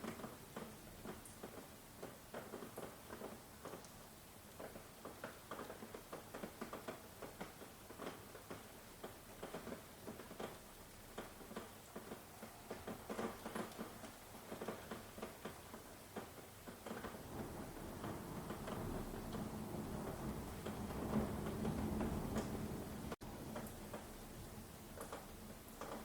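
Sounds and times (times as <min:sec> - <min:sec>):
raindrops pattering: 0:00.0 - 0:26.0
rain hiss: 0:00.1 - 0:26.0.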